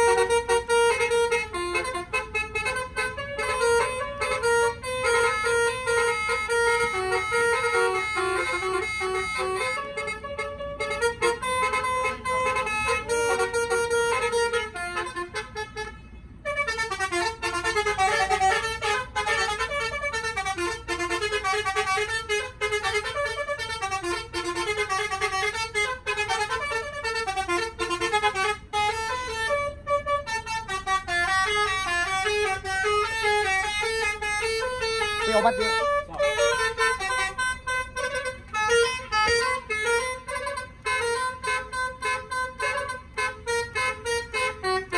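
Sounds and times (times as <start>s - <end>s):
musical vehicle horn melody: 0.0s - 44.9s.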